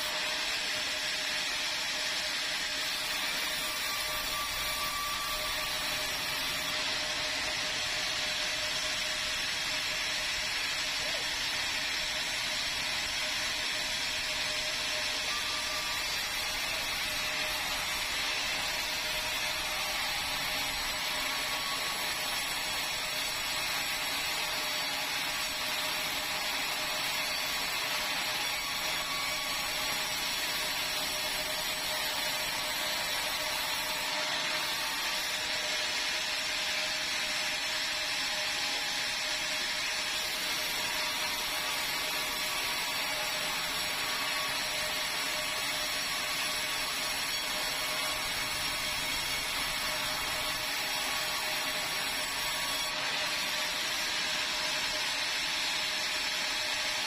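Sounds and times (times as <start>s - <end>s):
saw whining: 0.0s - 57.0s.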